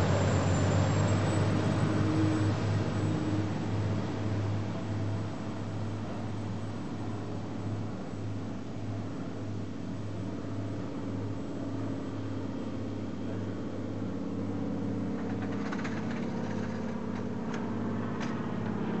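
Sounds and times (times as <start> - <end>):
ferry engines droning: 0.0 - 19.0.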